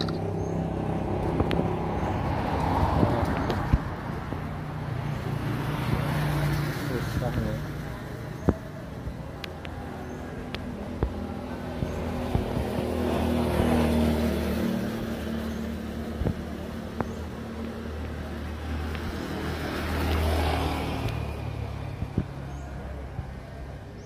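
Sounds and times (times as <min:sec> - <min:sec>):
vehicle engines passing by: 0:00.0 - 0:24.0.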